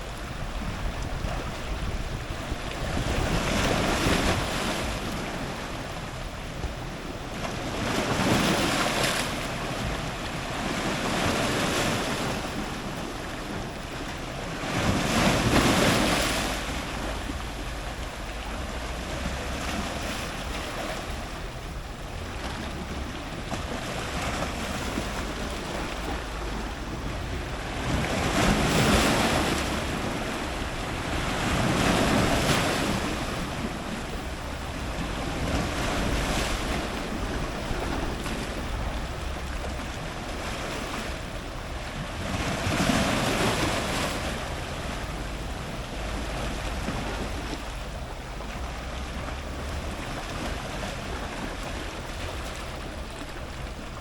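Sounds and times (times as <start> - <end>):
ocean surf breaking on rocks: 0.0 - 54.0.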